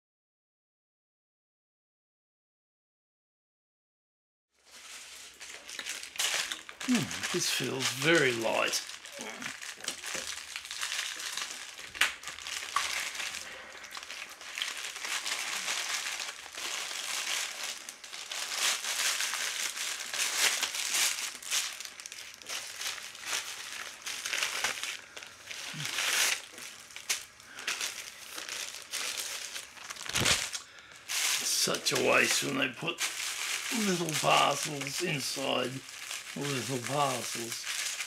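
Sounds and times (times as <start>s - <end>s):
plastic satchel crinkling: 4.6s - 38.0s.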